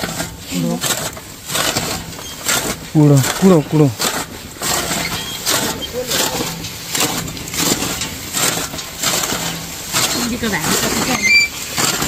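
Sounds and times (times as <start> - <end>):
irregular crunching strokes: 0.0 - 12.0.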